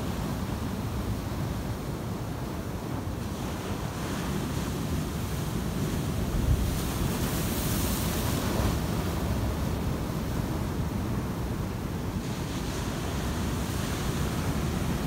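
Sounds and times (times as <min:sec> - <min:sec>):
surf breaking and washing: 0:02.6 - 0:15.0.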